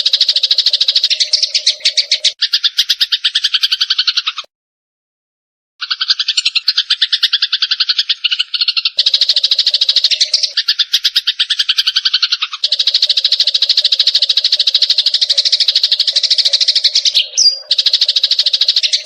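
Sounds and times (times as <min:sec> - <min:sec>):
sparrows chattering: 0:00.0 - 0:04.5, 0:05.8 - 0:19.0.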